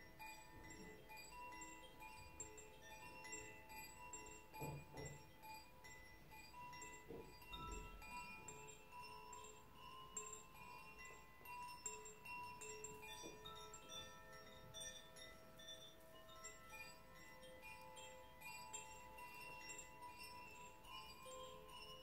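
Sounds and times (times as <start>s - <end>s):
wind chime ringing: 0.0s - 22.0s.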